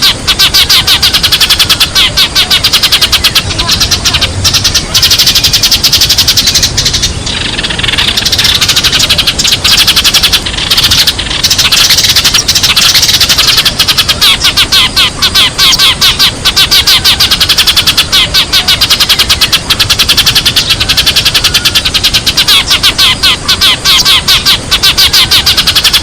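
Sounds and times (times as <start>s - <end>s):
sparrows chirping rapidly: 0.0s - 26.0s.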